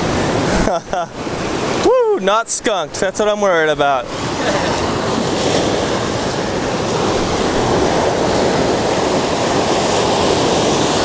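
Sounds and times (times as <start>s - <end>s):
waves on rocky shore: 0.0s - 11.0s.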